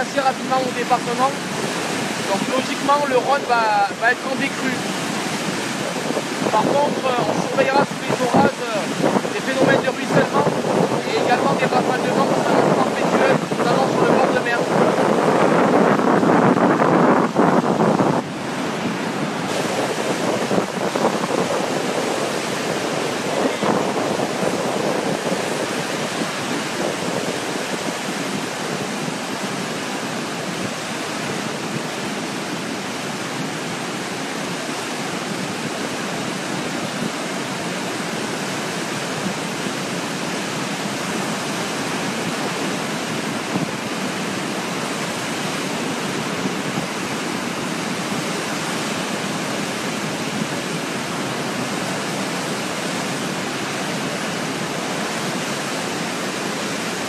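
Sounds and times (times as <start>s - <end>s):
turbulent water rushing: 0.0s - 57.0s.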